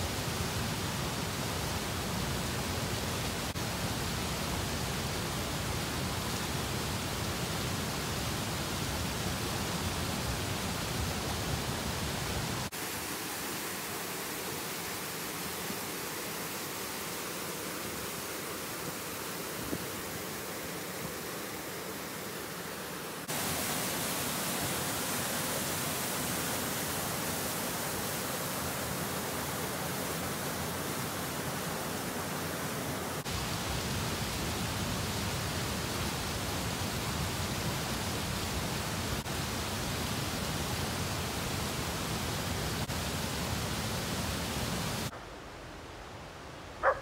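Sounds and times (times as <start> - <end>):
waterfall rushing: 0.0 - 45.2.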